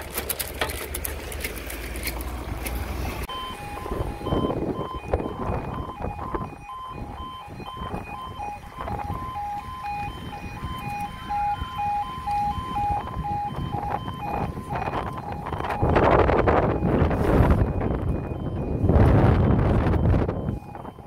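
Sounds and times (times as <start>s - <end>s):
diesel train rumble: 0.0s - 21.0s
level crossing alarm beeping: 3.2s - 21.0s.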